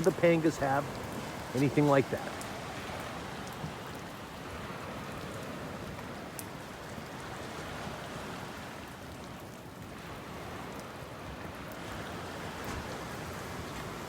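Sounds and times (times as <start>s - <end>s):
steady rain falling: 0.0s - 14.0s
surf washing on beach: 0.0s - 14.0s.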